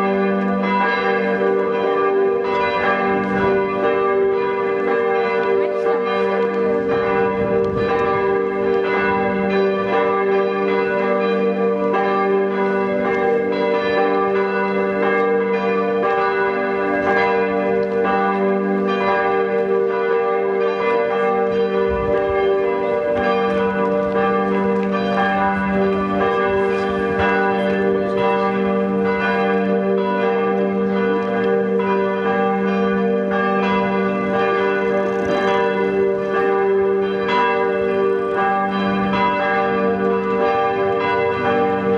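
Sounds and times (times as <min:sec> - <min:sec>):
church bells ringing a peal: 0:00.0 - 0:41.9.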